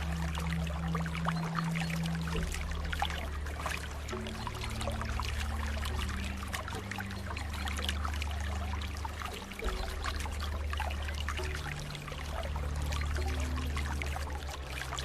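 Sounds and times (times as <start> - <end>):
small water splashes: 0.0 - 15.0
soft background music: 0.0 - 15.0
water running and trickling: 0.0 - 15.0.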